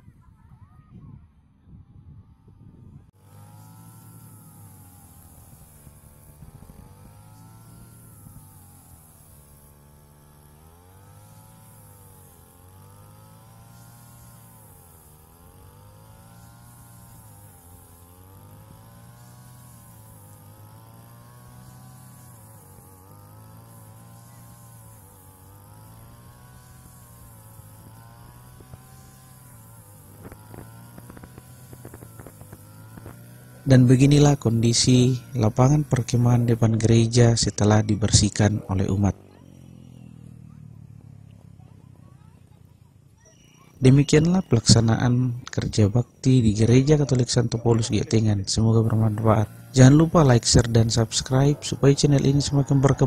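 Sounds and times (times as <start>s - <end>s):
brush cutter engine cutting grass: 2.2s - 53.0s.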